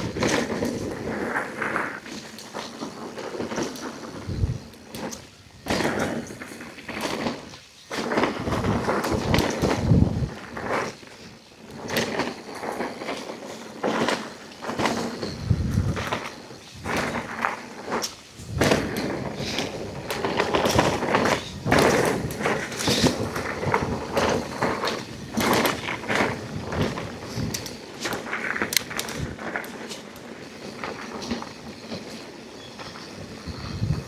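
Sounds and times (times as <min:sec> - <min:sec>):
bike knocking and rattling: 0:00.0 - 0:34.0
bike tyres on dirt: 0:00.0 - 0:34.0.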